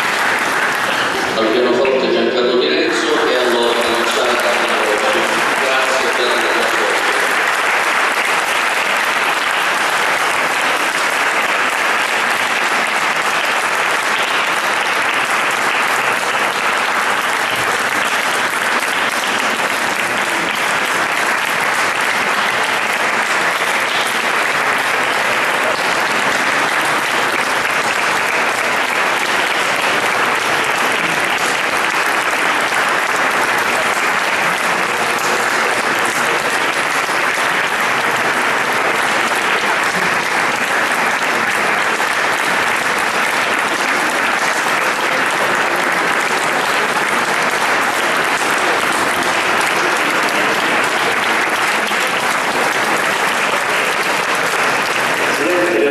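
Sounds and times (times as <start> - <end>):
audience applauding: 0.0 - 55.9.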